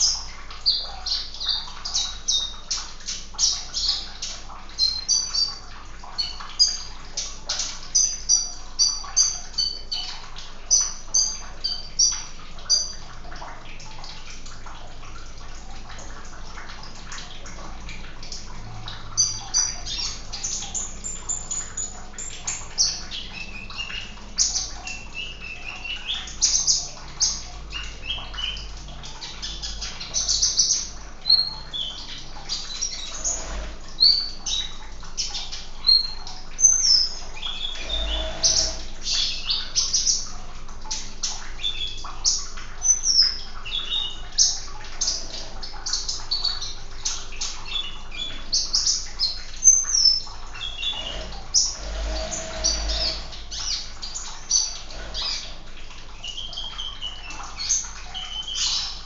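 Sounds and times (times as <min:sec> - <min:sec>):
running water hiss: 0:00.0 - 0:59.0.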